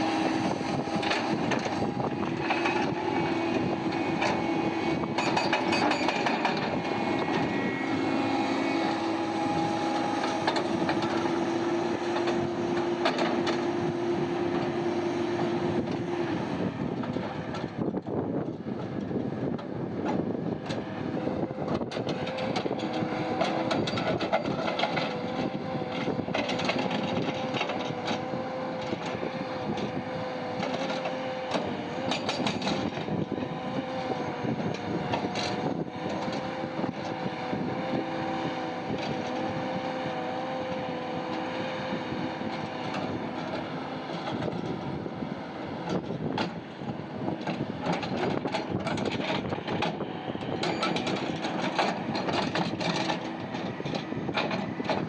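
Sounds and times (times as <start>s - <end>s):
heavy machinery running: 0.0s - 55.0s
machine whine: 0.0s - 55.0s.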